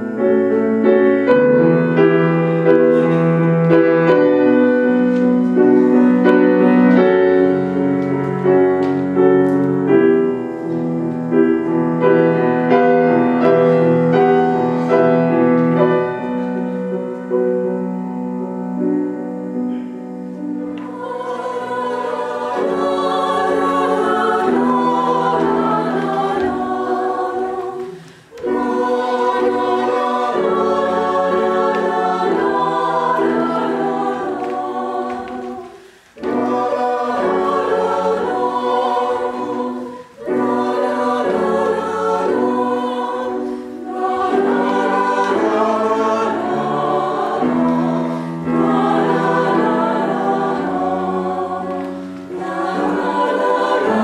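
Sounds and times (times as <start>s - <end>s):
group singing in parts: 0.0s - 17.6s, 19.8s - 54.0s
piano chords: 0.0s - 54.0s.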